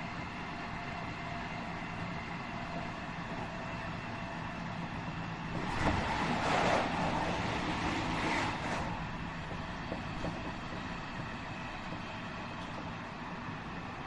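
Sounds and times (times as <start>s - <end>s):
train rolling noise: 0.0s - 14.0s.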